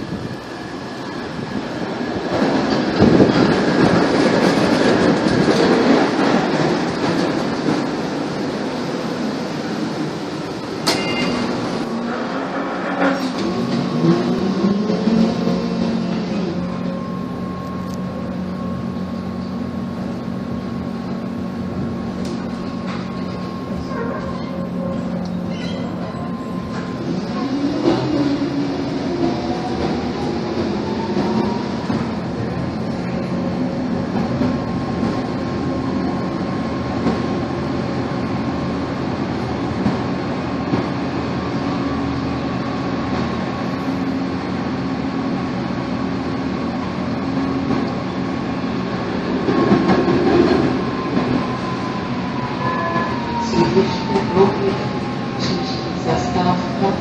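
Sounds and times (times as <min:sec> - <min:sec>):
tram motor hum and whine: 0:00.0 - 0:57.0
tram rumbling and rattling on rails: 0:00.0 - 0:57.0.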